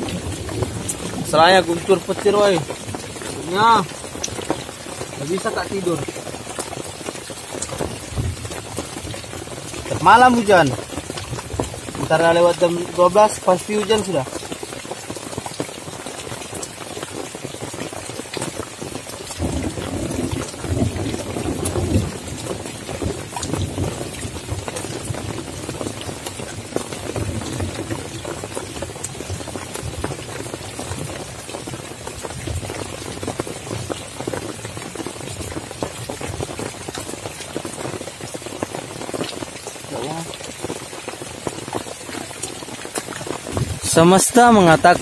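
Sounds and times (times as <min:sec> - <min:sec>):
deep rain rush: 0:00.0 - 0:45.0
heavy rain on a tent: 0:00.0 - 0:45.0.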